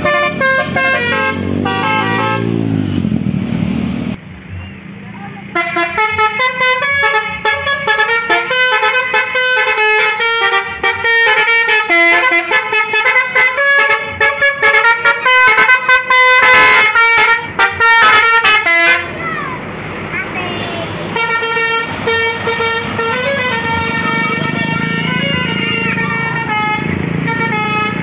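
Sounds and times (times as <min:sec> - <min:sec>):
bus horn playing melody: 0:00.0 - 0:02.9, 0:05.5 - 0:19.2, 0:21.0 - 0:28.0.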